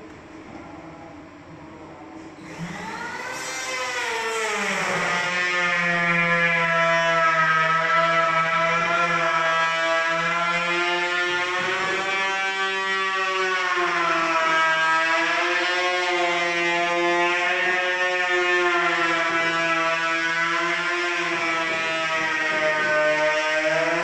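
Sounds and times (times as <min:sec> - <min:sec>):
low droning tone: 0:00.0 - 0:24.0.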